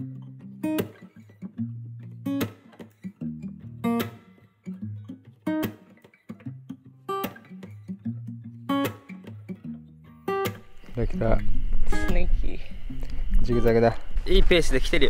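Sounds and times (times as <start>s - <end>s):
acoustic guitar plucking: 0.0s - 15.0s.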